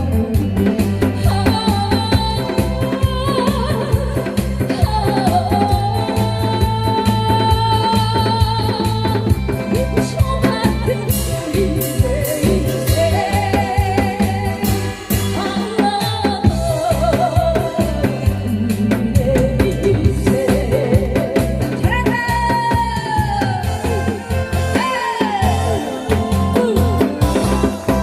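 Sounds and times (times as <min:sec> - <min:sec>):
drum and bass beat: 0:00.0 - 0:28.0
woman singing with vibrato: 0:00.0 - 0:28.0.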